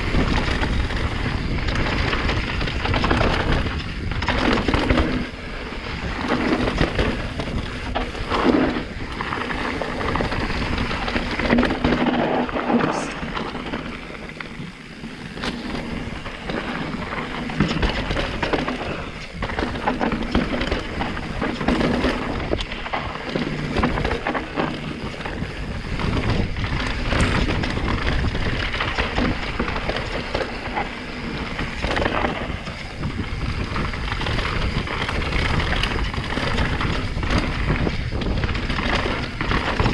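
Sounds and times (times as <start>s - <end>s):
bike rattling and knocking: 0.0s - 39.9s
tyres rumbling over stones: 0.0s - 39.9s.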